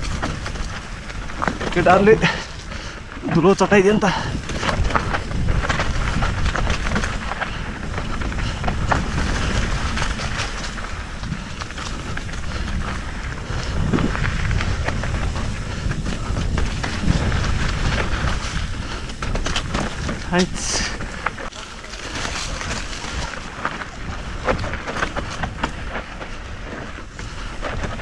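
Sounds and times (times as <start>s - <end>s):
bike rattling and clicking: 0.0s - 28.0s
bike tyres on dirt and stones: 0.0s - 28.0s.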